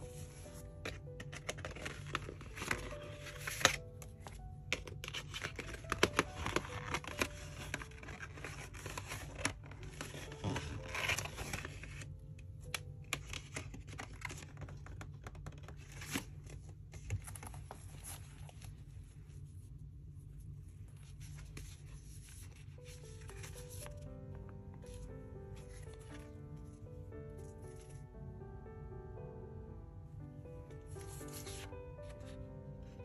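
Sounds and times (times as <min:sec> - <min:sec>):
paper packaging rustling: 0:00.0 - 0:19.5, 0:20.9 - 0:28.0, 0:30.7 - 0:33.0.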